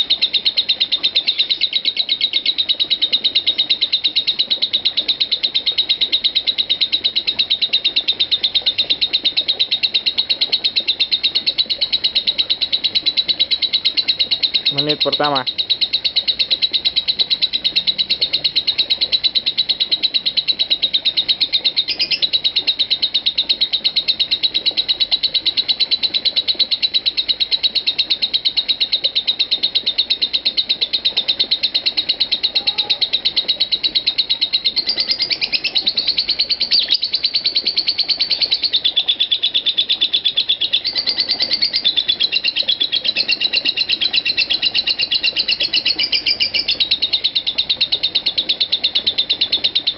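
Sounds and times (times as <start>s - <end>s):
lovebird chattering: 0.0s - 49.9s.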